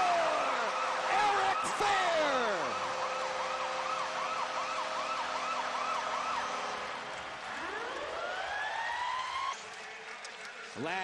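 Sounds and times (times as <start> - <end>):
wailing siren effect: 0.0 - 9.6
crowd cheering and clapping: 0.0 - 11.0.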